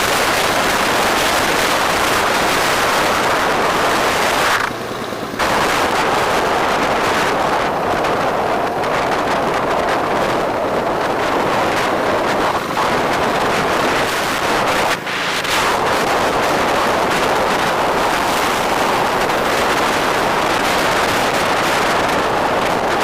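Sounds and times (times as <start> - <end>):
road and traffic noise: 0.0 - 23.0
wind buffeting microphone: 0.0 - 23.0.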